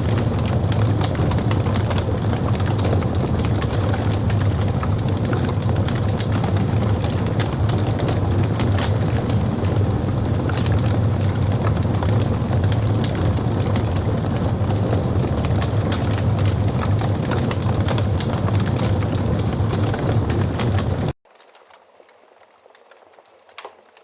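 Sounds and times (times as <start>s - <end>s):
low rumble: 0.0s - 21.2s
fire crackling and popping: 0.0s - 24.0s.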